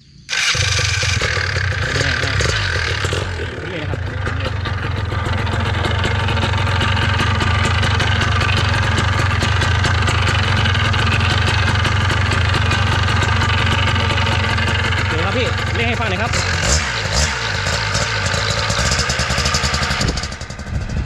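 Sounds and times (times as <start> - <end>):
paramotor engine idling: 0.3 - 21.0.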